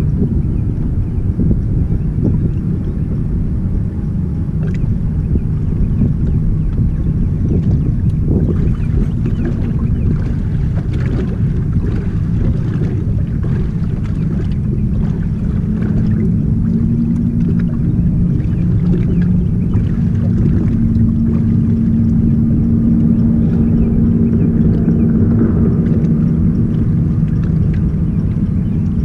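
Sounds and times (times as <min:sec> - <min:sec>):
boat motor rumbling hum: 0:00.0 - 0:29.0.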